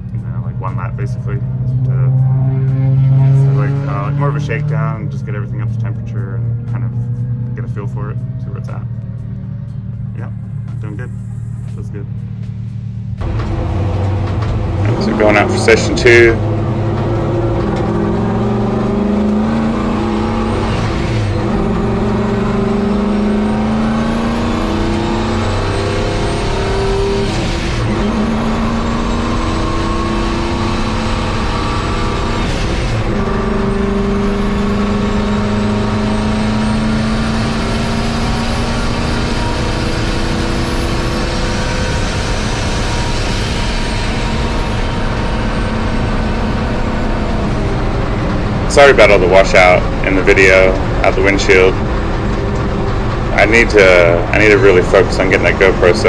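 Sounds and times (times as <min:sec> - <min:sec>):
high whine: 0:00.0 - 0:56.0
truck engine running hard: 0:00.0 - 0:56.0.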